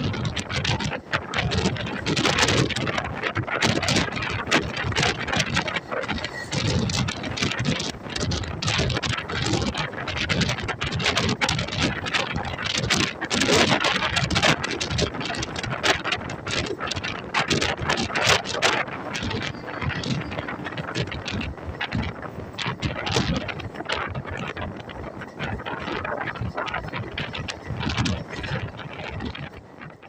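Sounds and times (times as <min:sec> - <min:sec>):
train running noise: 0:00.0 - 0:30.0
wind buffeting microphone: 0:00.0 - 0:30.0.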